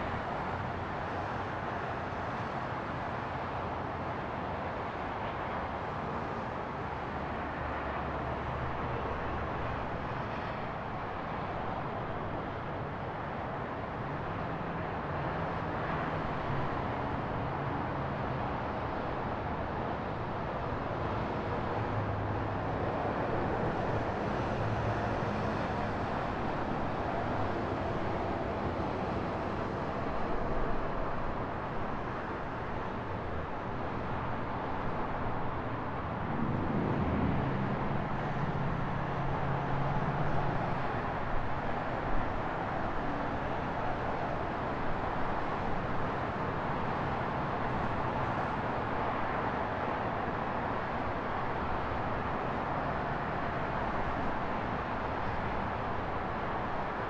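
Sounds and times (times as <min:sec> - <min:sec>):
road traffic hum and hiss: 0:00.0 - 0:57.0.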